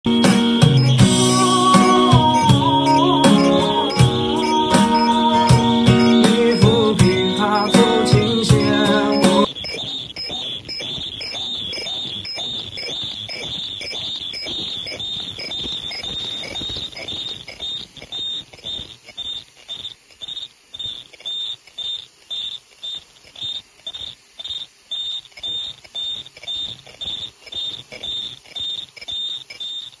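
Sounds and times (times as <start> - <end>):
machine whine pulsing: 0.0 - 30.0.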